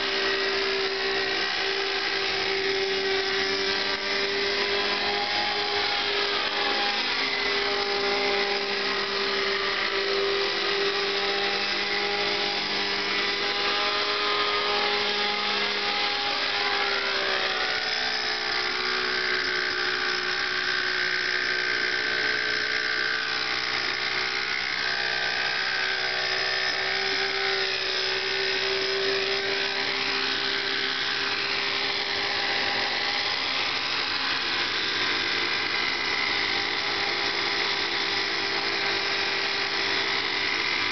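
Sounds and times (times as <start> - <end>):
model helicopter engine whining: 0.0 - 40.9.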